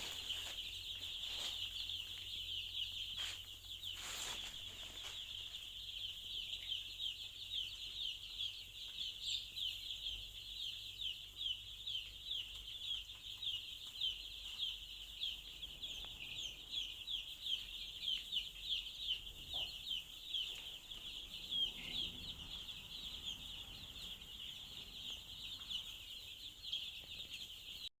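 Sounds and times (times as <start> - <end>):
chicks peeping: 0.0 - 27.9.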